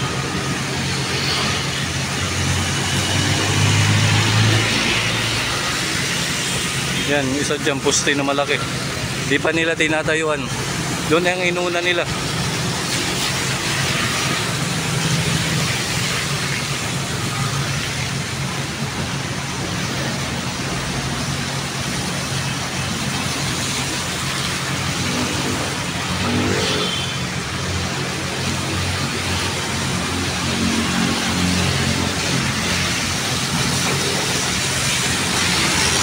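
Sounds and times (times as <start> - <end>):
cars passing: 0.0 - 36.0.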